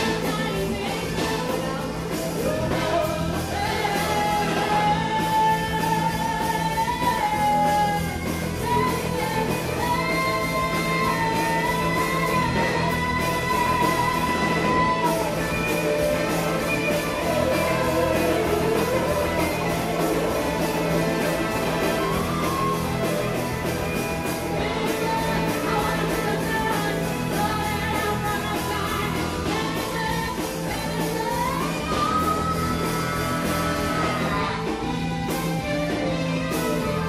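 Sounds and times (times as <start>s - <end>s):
pop-rock band playing: 0.0s - 37.0s
woman singing lead: 0.0s - 37.0s.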